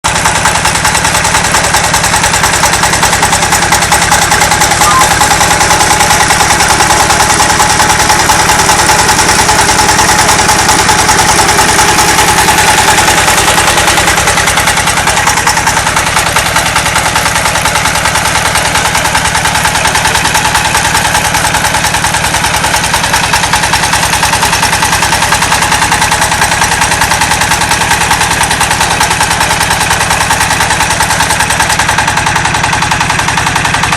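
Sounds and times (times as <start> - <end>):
diesel engine chugging: 0.1 - 33.9.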